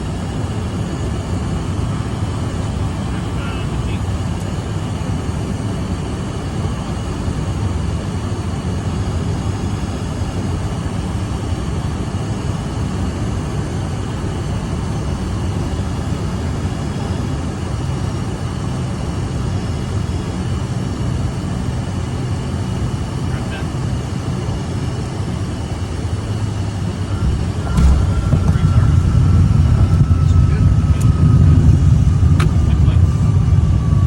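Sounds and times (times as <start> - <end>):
faint jet whine: 0.0 - 34.0
jet engine rumble: 0.0 - 34.0.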